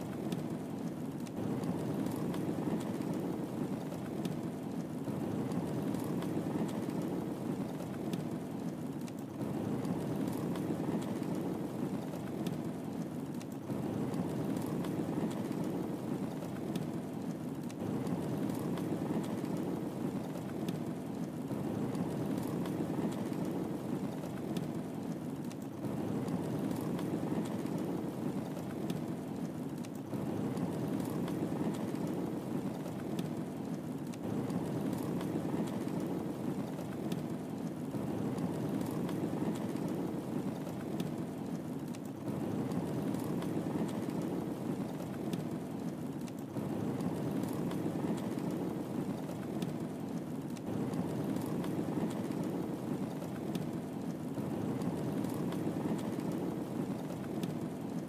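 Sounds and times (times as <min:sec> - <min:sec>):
fire crackles and pops: 0:00.0 - 0:58.0
rush of flame: 0:00.0 - 0:58.0.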